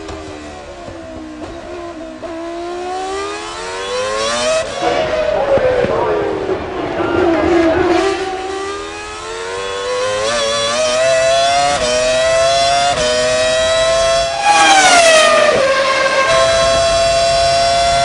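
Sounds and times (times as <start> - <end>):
racing car engine at high revs: 0.0 - 18.0.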